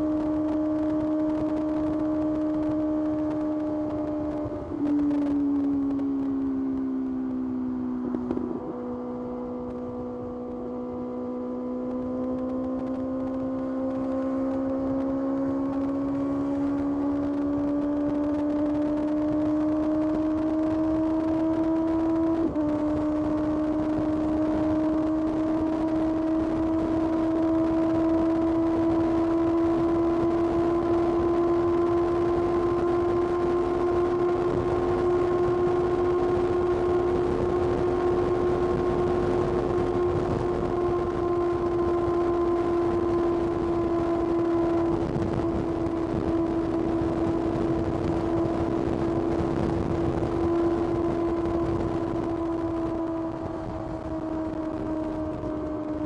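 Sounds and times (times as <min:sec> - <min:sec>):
motorcycle engine at high revs: 0:00.0 - 0:56.0
wind and road noise: 0:00.0 - 0:56.0.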